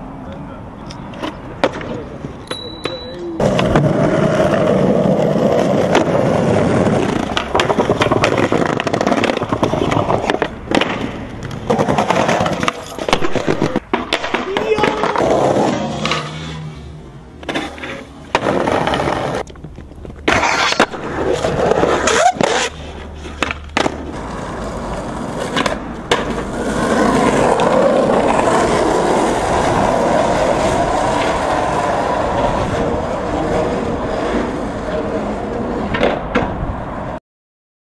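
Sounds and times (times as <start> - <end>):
skateboard wheels rolling on asphalt: 0.0 - 37.2
skateboard hitting the ground: 1.2 - 16.5, 17.4 - 36.8.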